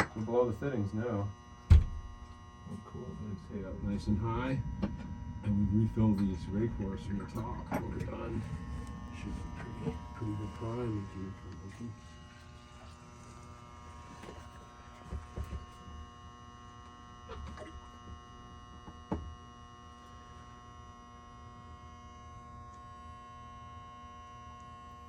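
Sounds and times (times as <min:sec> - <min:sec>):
electrical machine hum: 0:00.0 - 0:25.0.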